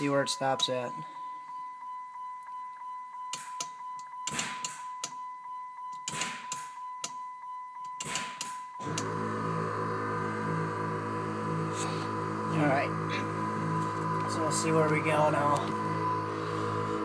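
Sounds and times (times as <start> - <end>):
steady high-pitched whine: 0.0 - 5.3, 5.9 - 17.0.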